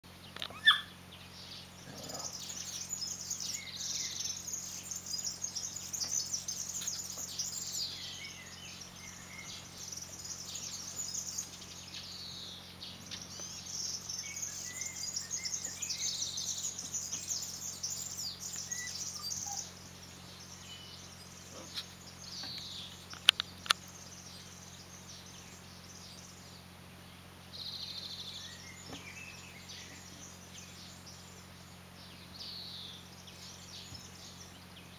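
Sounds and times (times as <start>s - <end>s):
birds chirping and trilling: 0.0s - 34.9s.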